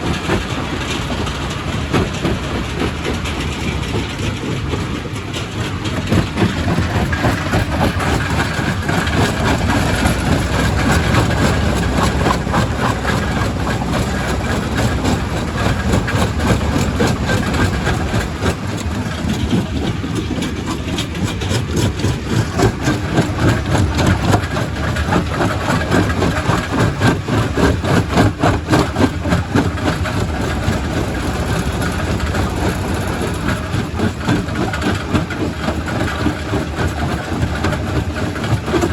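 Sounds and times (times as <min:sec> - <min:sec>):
rock crusher engine rumble: 0:00.0 - 0:38.9.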